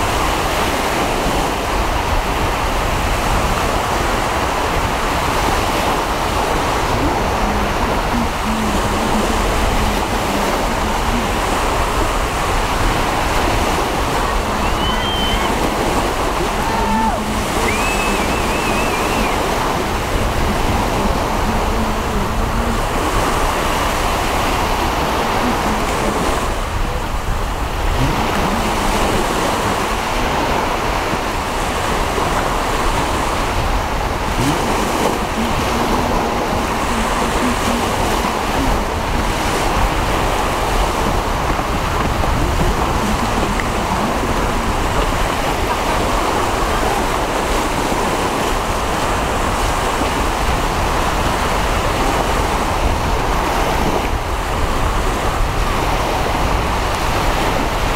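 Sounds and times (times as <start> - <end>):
small waves: 0.0 - 57.9
wind buffeting microphone: 0.0 - 57.9.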